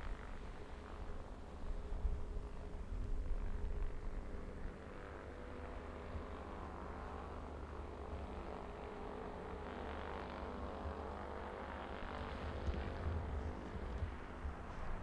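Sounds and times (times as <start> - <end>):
distant jet engines rumbling: 0.2 - 15.0.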